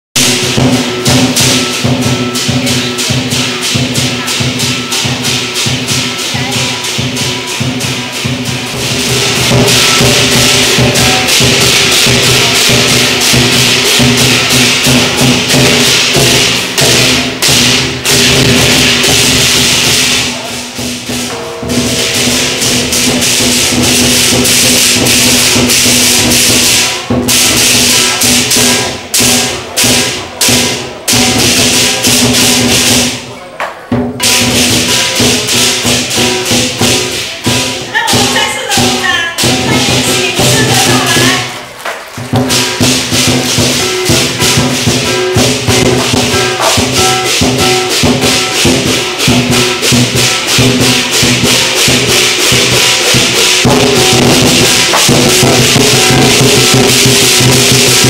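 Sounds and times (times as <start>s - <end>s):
crashing cymbals: 0.2s - 33.4s, 34.0s - 58.0s
large drum rolls: 0.2s - 58.0s.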